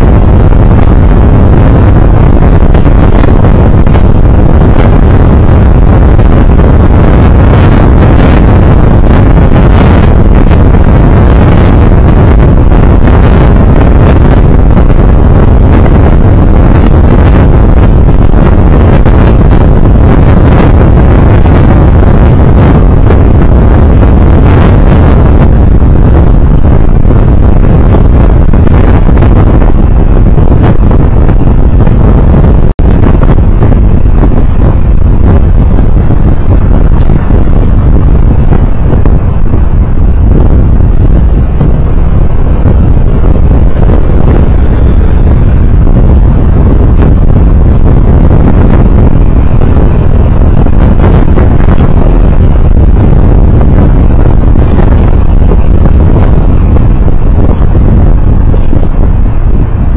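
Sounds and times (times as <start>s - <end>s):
vehicle road and engine noise: 0.0s - 59.9s
wind rushing over microphone: 0.0s - 59.9s.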